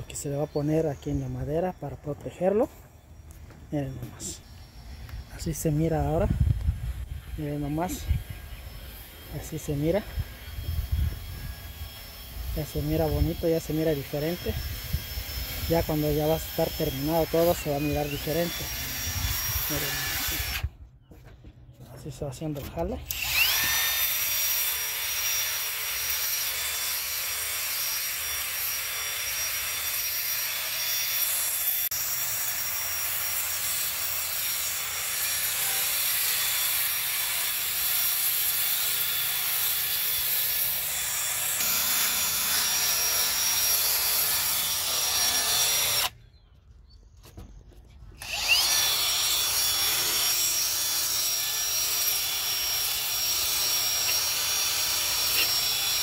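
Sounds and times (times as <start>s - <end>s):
cordless drill whining: 3.9s - 20.7s, 23.1s - 46.2s, 48.2s - 56.0s.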